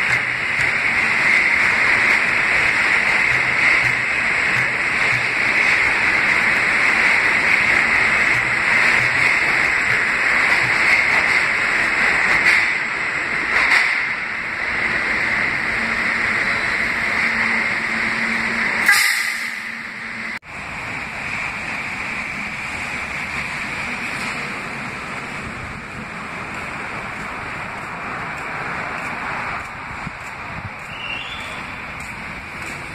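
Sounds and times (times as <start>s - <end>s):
outdoor ambience: 0.0s - 32.9s
subway train rumbling: 0.0s - 32.9s.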